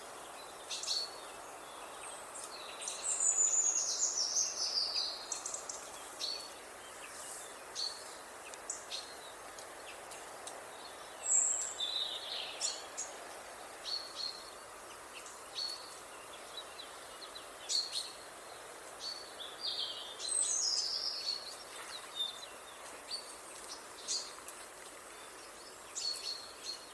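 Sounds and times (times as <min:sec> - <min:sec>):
background hiss: 0:00.0 - 0:26.9
chaffinch singing: 0:00.0 - 0:26.9.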